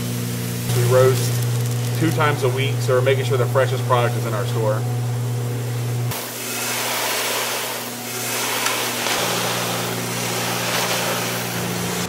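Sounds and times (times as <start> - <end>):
low electrical hum: 0.0 - 12.0
whooshing blower noise: 0.0 - 12.0.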